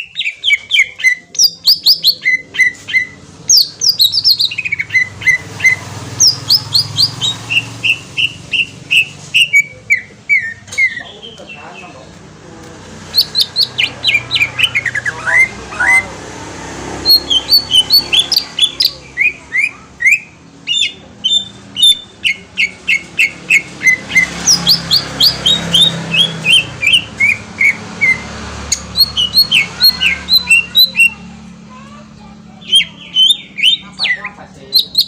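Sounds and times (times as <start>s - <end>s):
bird singing whistled notes: 0.0s - 11.4s, 13.1s - 16.1s, 17.1s - 31.2s, 32.6s - 35.0s.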